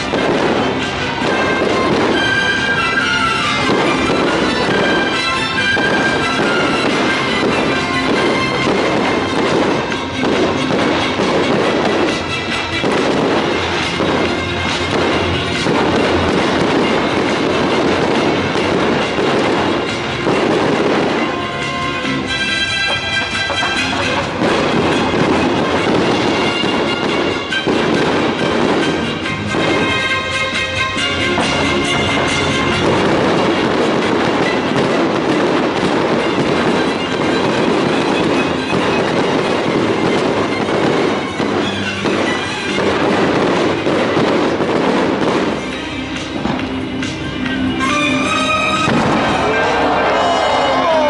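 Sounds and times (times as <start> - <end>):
fireworks crackling and rumbling: 0.0 - 51.0
music: 0.0 - 51.0.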